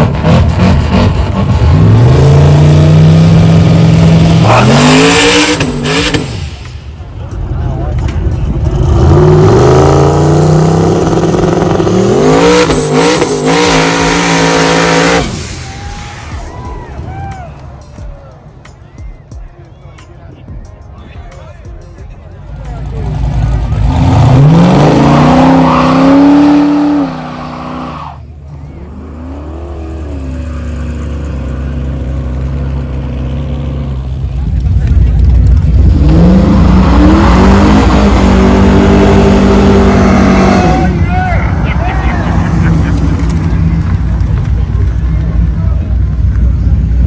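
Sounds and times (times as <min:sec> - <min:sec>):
car engine revving: 0:00.0 - 0:16.4, 0:22.5 - 0:47.0.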